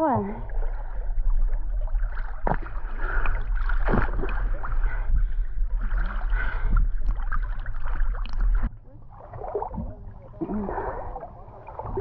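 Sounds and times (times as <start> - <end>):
low microphone rumble: 0.0 - 12.0
water sloshing and splashing: 0.0 - 12.0.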